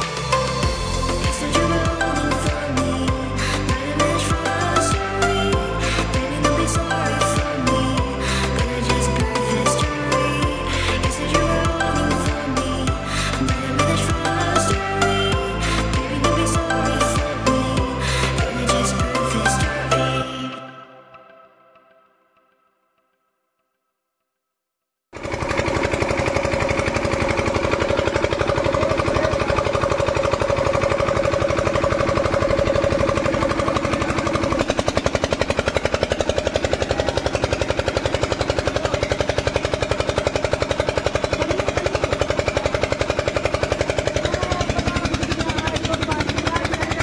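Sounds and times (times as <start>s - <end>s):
diesel generator engine chugging: 0.0s - 20.4s, 25.2s - 47.0s.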